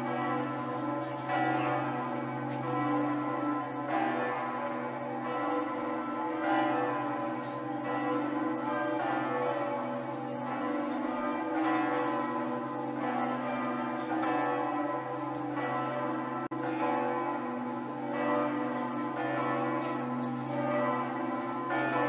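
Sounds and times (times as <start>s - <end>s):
bells ringing: 0.0s - 22.0s.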